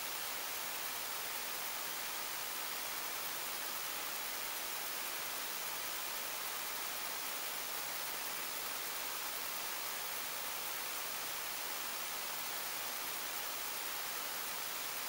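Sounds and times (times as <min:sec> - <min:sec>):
microphone hiss: 0:00.0 - 0:15.0.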